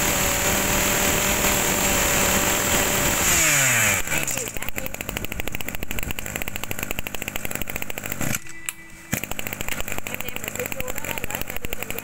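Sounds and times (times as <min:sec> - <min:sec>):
brush cutter engine idling: 0:00.0 - 0:12.0.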